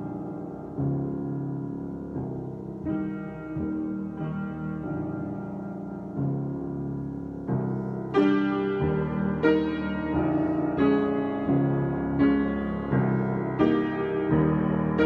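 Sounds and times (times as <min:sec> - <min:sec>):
solo piano chords: 0:00.0 - 0:15.0.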